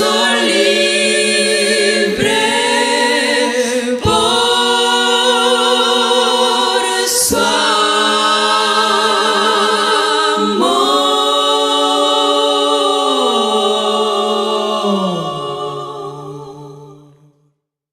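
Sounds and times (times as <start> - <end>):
women singing a cappella: 0.0 - 17.5.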